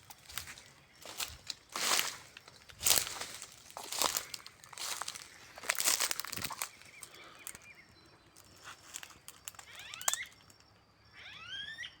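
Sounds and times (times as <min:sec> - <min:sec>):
crackling rustle: 0:00.0 - 0:07.6, 0:08.4 - 0:10.6
birds chirping: 0:00.0 - 0:12.0.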